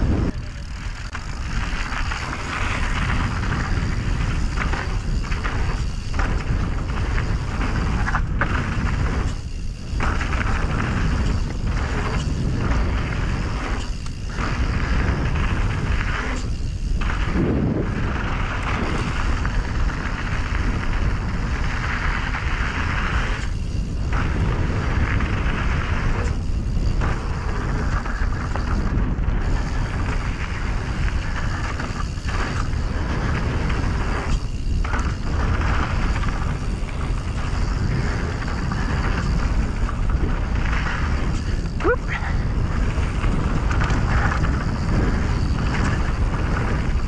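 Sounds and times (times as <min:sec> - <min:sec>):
tyres rumbling over dirt: 0:00.0 - 0:47.0
wind buffeting microphone: 0:00.0 - 0:47.0.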